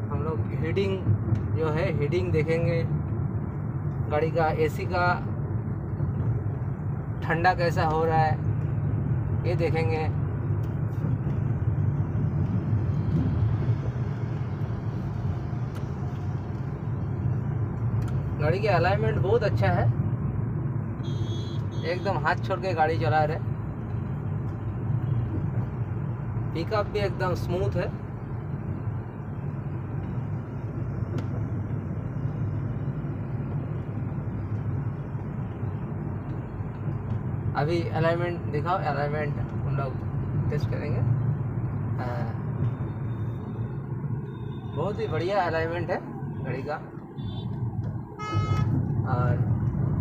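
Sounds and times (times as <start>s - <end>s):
low rumble of engine and road: 0.0s - 50.0s.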